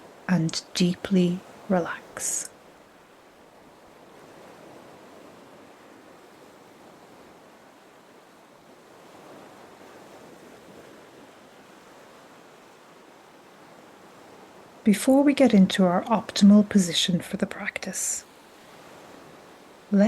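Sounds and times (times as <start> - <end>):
ocean waves washing in: 0.0 - 20.0.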